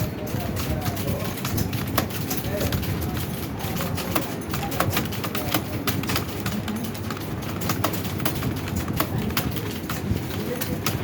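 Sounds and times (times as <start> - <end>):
fast keyboard typing: 0.0 - 11.0.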